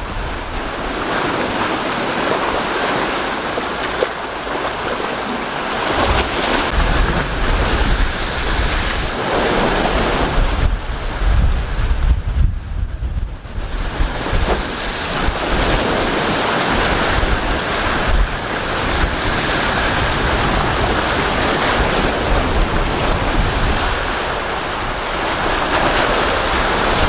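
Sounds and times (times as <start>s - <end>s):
waves breaking on shore: 0.0s - 27.0s
wind buffeting microphone: 0.0s - 27.0s.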